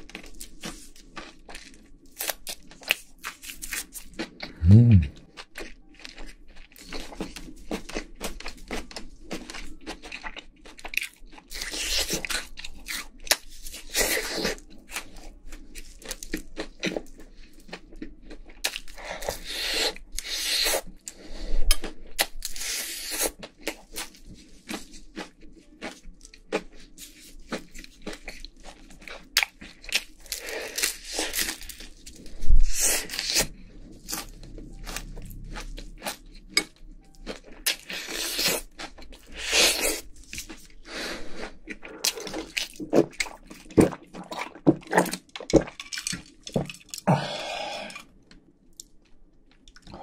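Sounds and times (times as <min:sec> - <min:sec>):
wet chewing: 0:00.0 - 0:47.1
crunchy chewing of fried chicken: 0:00.0 - 0:50.0.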